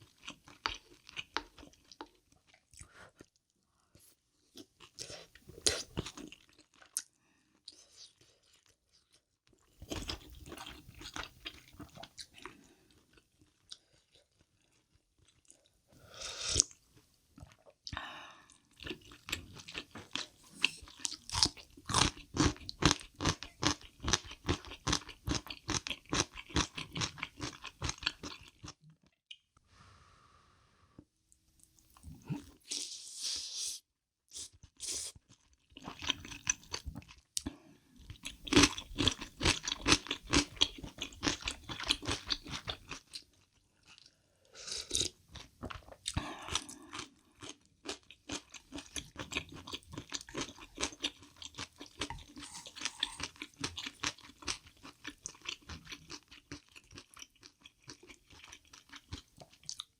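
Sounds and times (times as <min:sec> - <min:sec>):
crunching and chewing food: 0:00.0 - 0:15.9, 0:16.6 - 0:29.5, 0:34.6 - 0:59.9.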